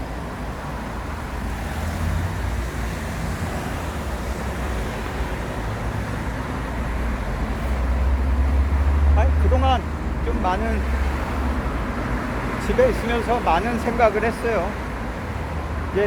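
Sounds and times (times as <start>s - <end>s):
low traffic rumble: 0.0s - 16.0s
passing cars: 0.0s - 16.0s.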